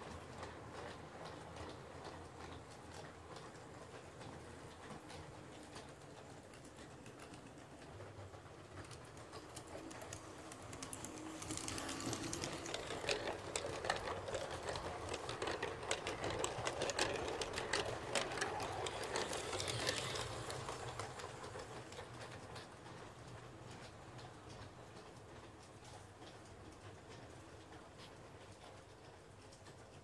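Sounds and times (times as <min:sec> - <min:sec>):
model train wheels clicking on rails: 0:00.0 - 0:30.0.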